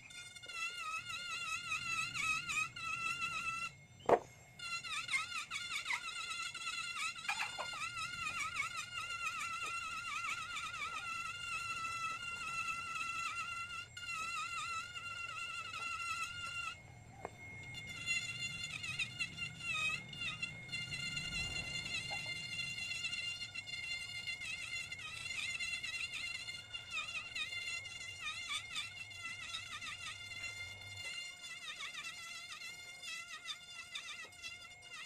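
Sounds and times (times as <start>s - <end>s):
rotary tool grinding wood: 0.0s - 35.0s.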